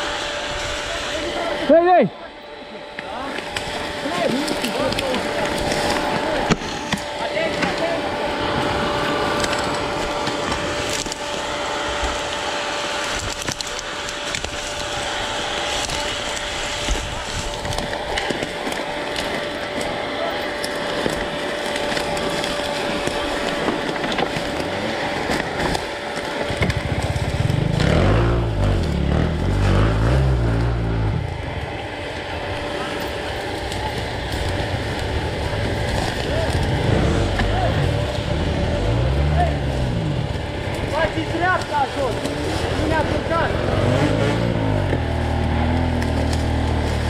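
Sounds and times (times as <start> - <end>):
dirt bike engine: 0.0 - 47.0
dry branches cracking: 2.9 - 47.0.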